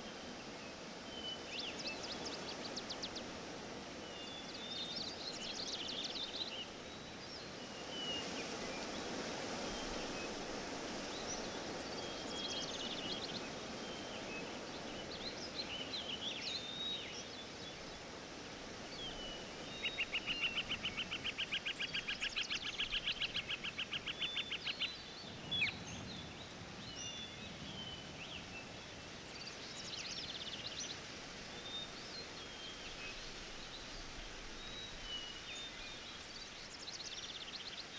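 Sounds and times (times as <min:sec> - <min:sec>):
songbirds chirping: 0:00.0 - 0:37.9
steady background hiss: 0:00.0 - 0:37.9.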